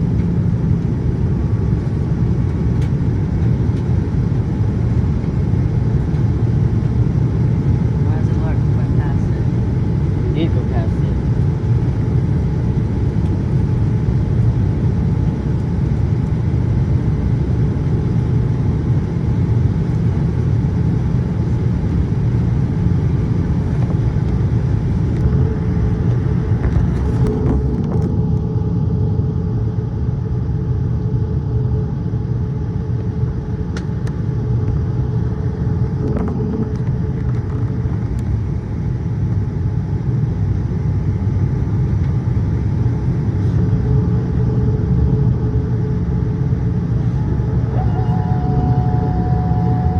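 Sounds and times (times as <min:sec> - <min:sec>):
airliner cabin rumble: 0:00.0 - 0:49.9
faint steady hum: 0:00.0 - 0:49.9.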